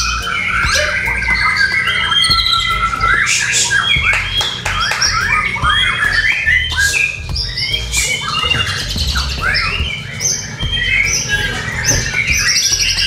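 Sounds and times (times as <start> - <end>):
songbirds whistling: 0.0 - 13.0.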